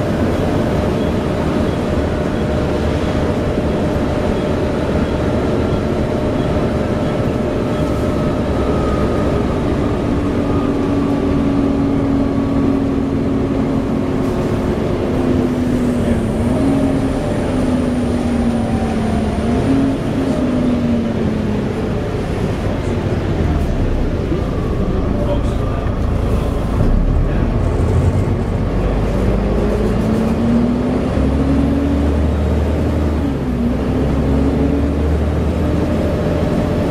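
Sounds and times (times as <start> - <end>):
bus engine drone: 0.0 - 36.9
road noise: 0.0 - 36.9.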